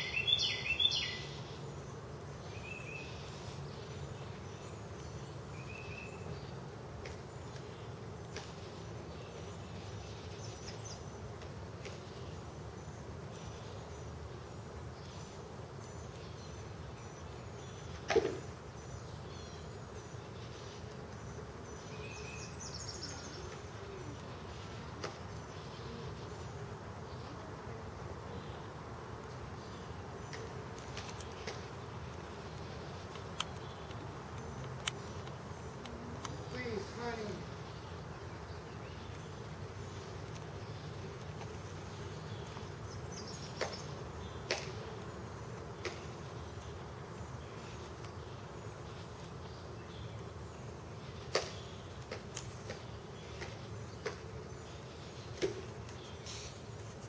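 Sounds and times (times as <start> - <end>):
honey bees buzzing: 6.2 - 57.0.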